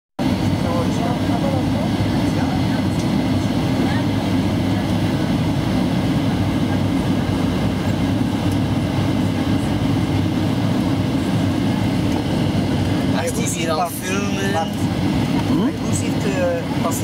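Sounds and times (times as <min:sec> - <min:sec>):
aircraft cabin engine rumble: 0:00.2 - 0:17.0.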